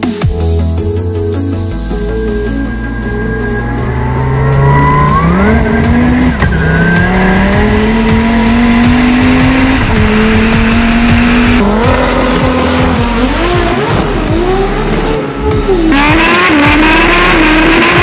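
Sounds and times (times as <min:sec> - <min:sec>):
car engine at full throttle: 0:01.5 - 0:18.0
another car engine: 0:02.1 - 0:18.0.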